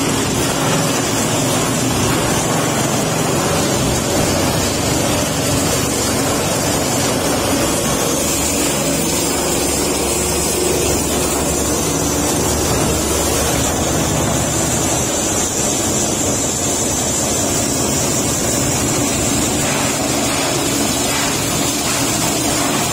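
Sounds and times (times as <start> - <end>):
frond chopper machine running: 0.0 - 22.9.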